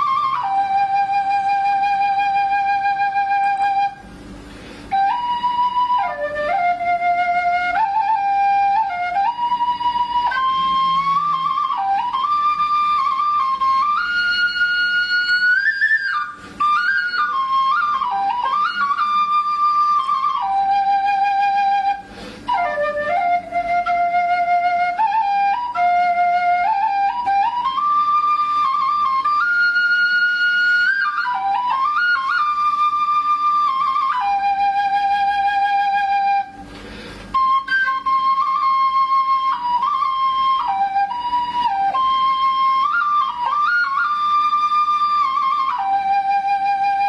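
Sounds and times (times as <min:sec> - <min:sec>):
solo flute melody: 0:00.0 - 0:47.0.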